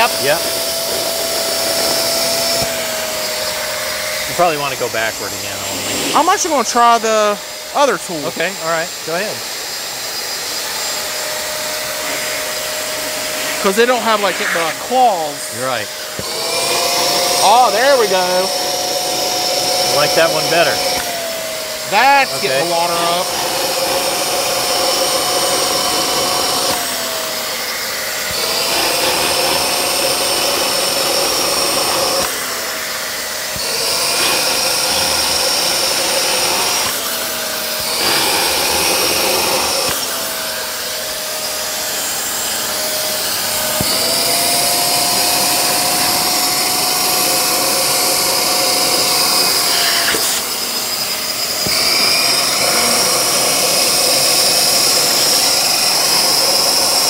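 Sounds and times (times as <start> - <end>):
wet vacuum sucking water: 0.0 - 57.0.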